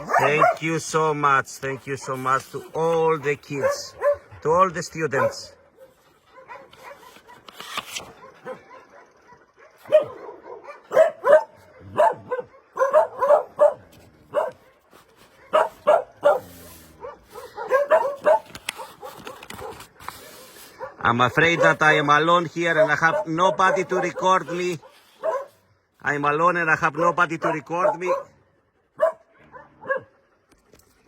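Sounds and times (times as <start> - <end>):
dog barking: 0.0 - 1.0, 2.0 - 25.6, 26.9 - 28.4, 29.0 - 30.3.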